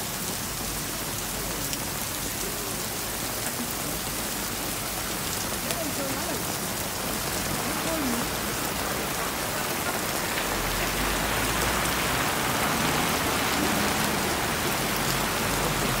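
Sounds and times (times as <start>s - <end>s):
heavy rain on pavement: 0.0s - 16.0s.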